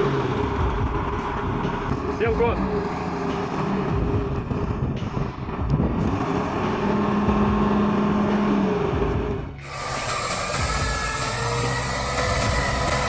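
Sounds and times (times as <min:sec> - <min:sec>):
truck diesel engine revving: 0:00.0 - 0:13.0.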